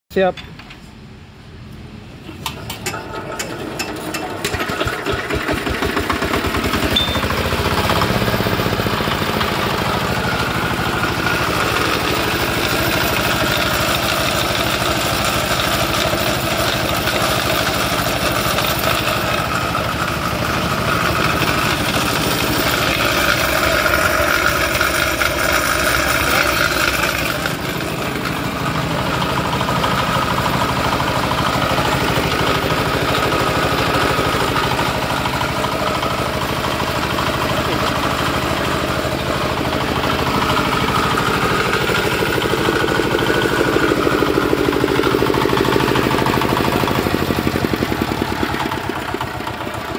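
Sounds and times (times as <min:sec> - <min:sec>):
diesel engine running: 0:01.2 - 0:49.9.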